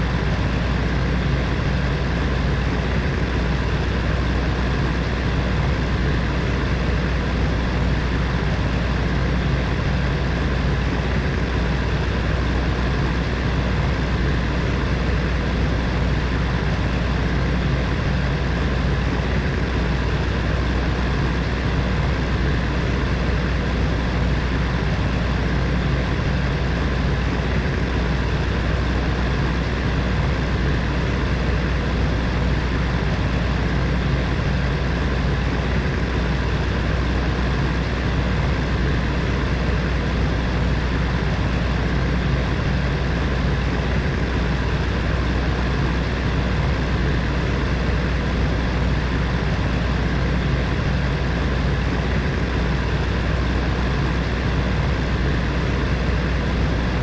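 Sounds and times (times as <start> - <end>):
low motor hum: 0.0 - 57.0.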